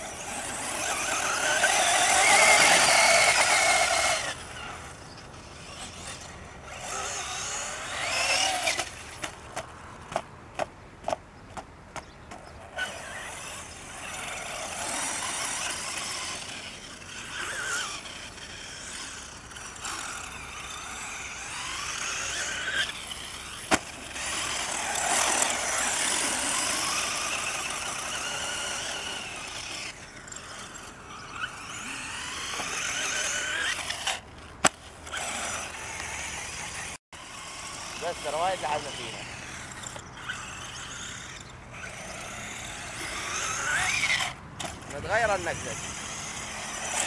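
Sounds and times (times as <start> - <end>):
electric motor whining: 0.0 - 9.3, 12.8 - 47.0.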